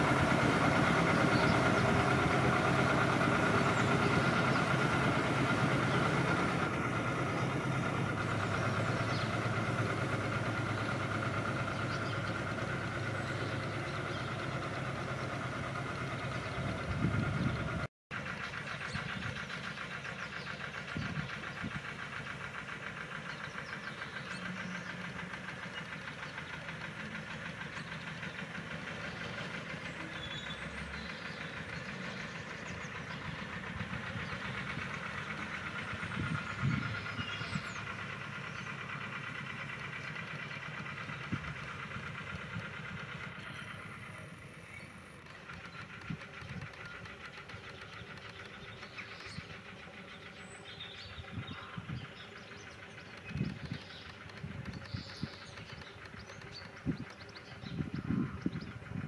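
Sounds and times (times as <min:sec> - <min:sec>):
locomotive engine running: 0:00.0 - 0:59.0
wheels clanking over rail joints: 0:00.0 - 0:59.0.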